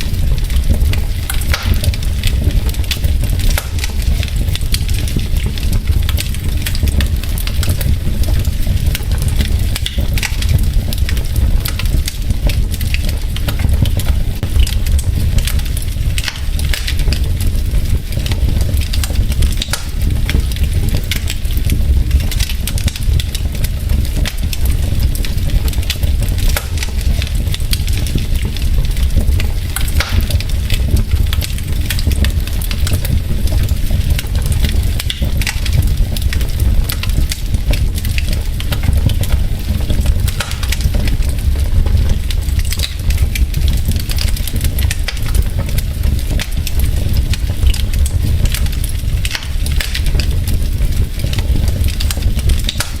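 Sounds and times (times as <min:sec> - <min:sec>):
logs crackling and popping: 0:00.0 - 0:53.0
low rumble of flames: 0:00.0 - 0:53.0.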